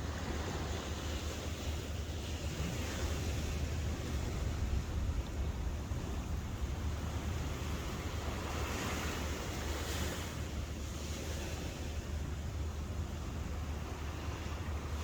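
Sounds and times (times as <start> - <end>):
sea waves washing in: 0.0 - 15.0
wind rumble on microphone: 0.0 - 15.0.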